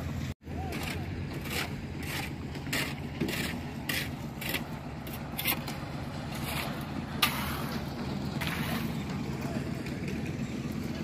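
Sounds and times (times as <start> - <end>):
cement mixer engine drone: 0.0 - 11.0
concrete scraping: 0.6 - 10.3.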